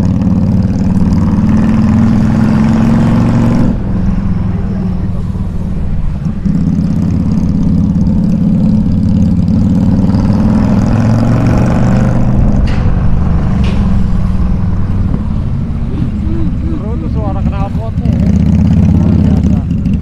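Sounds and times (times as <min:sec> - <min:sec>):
motorcycle exhaust rumbling: 0:00.0 - 0:20.0.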